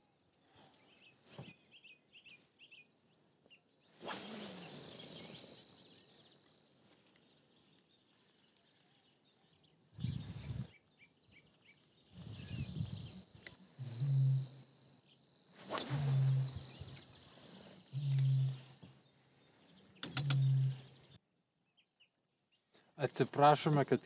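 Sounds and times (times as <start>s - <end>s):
faint bird chirps: 0.0s - 22.8s.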